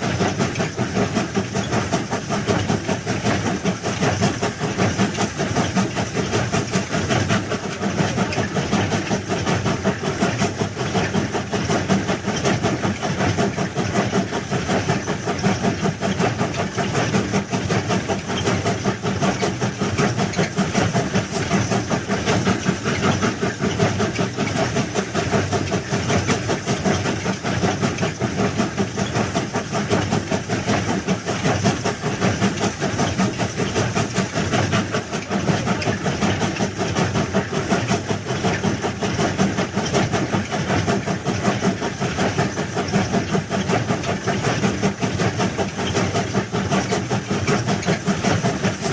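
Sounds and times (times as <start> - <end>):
train rumbling on rails: 0.0 - 48.9.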